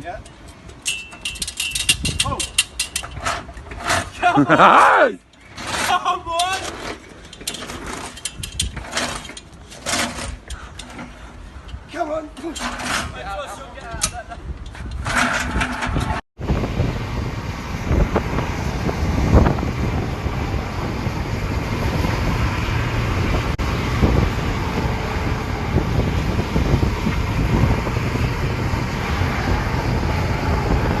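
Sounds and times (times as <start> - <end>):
vehicle road and wind noise: 0.0 - 31.0.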